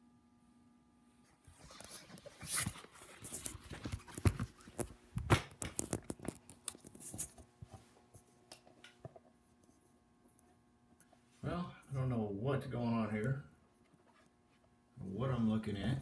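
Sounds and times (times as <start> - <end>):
faint room tone: 0.0 - 16.0.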